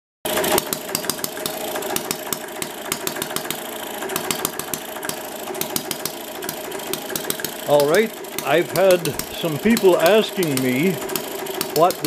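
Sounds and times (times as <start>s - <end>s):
small engine firing pops: 0.3s - 12.0s
steady mechanical running: 0.3s - 12.0s.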